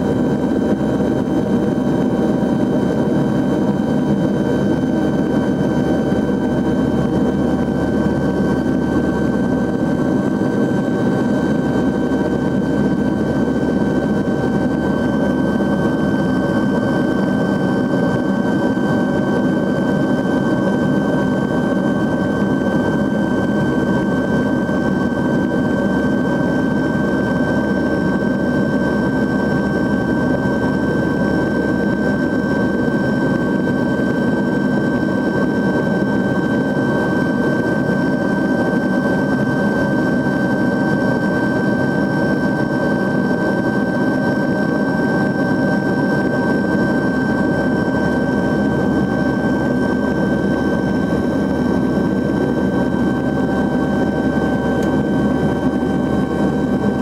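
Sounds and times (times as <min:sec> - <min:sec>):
turboprop cabin drone: 0:00.0 - 0:57.0.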